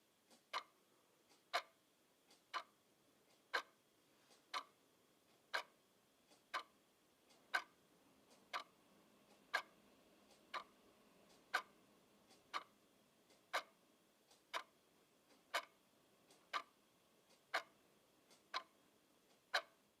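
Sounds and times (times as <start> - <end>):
wall clock ticking: 0.0 - 20.0.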